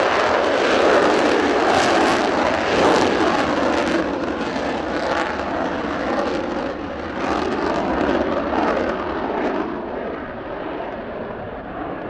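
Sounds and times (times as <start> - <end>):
loud jet roar: 0.0 - 12.0.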